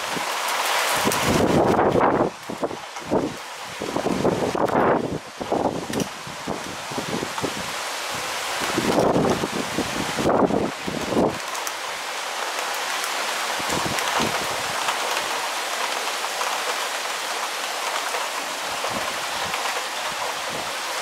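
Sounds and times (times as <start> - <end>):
heavy rain hiss: 0.0 - 21.0
wind gusts on microphone: 0.0 - 21.0.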